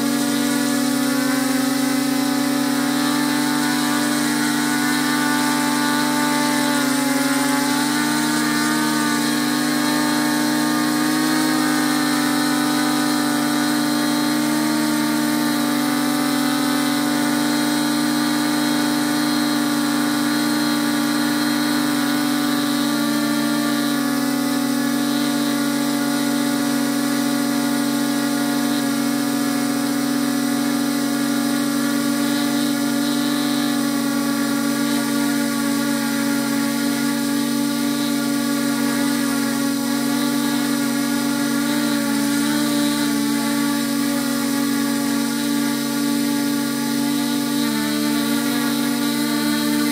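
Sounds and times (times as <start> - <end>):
drone propellers buzzing: 0.0 - 49.9.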